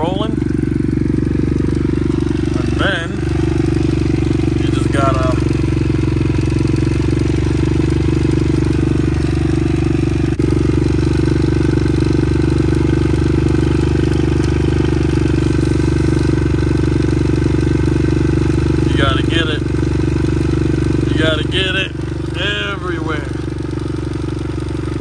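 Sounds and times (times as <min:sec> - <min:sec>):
dirt bike engine running: 0:00.0 - 0:25.0.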